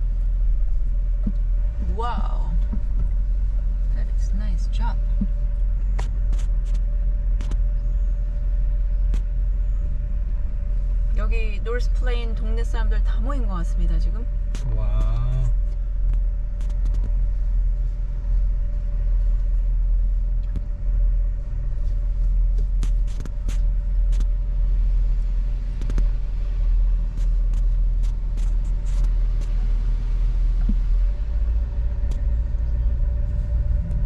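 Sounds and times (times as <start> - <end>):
engine and road rumble: 0.0 - 34.0
thin constant hum: 0.0 - 34.0.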